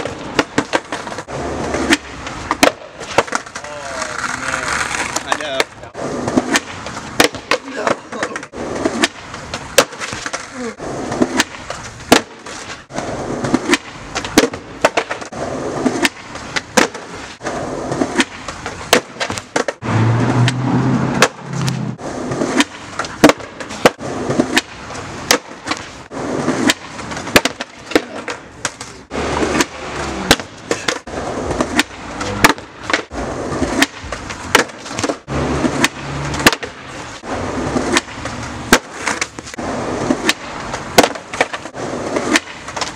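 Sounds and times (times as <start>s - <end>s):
skateboard clacking on pavement: 0.0s - 19.8s, 22.2s - 42.9s
skateboard clattering across ground: 0.0s - 19.8s, 22.0s - 42.9s
skateboard wheels rolling on concrete: 0.0s - 42.9s.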